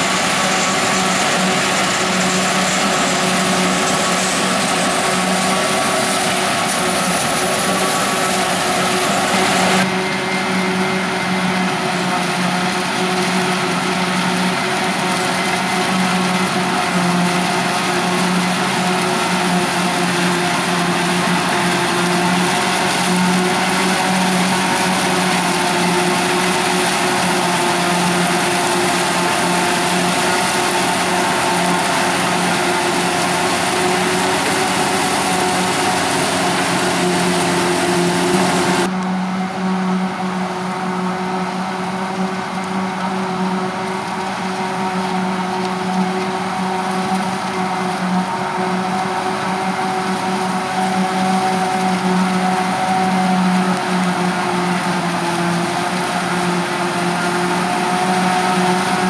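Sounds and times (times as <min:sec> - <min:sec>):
forage harvester chopping maize: 0:00.0 - 0:59.0
tractor running: 0:00.0 - 0:59.0.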